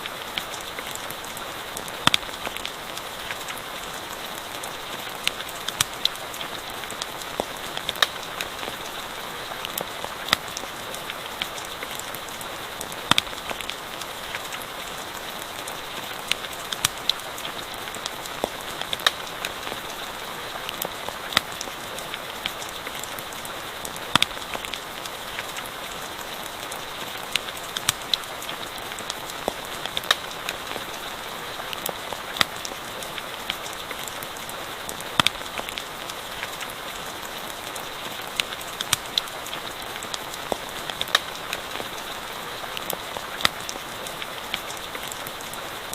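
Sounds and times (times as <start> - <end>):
campfire crackling and popping: 0.0 - 45.9
rain patter: 0.0 - 45.9.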